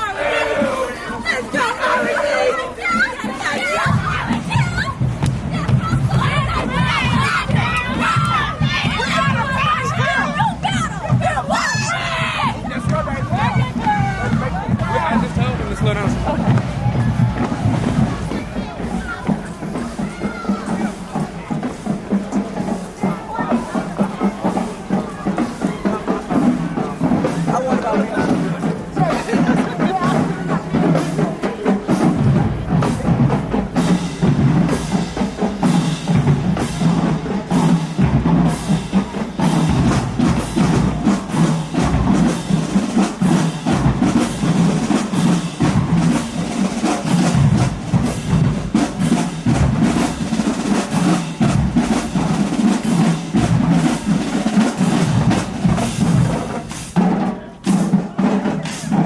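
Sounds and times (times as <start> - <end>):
drumline playing: 0.0 - 59.0.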